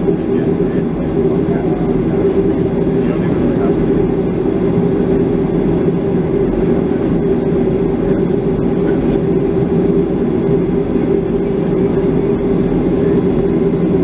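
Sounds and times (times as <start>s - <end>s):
jet engines idling in cabin: 0.0s - 14.0s.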